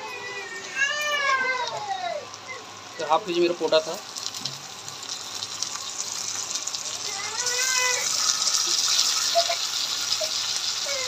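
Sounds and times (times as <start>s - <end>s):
meat sizzling in hot oil: 1.6s - 11.0s.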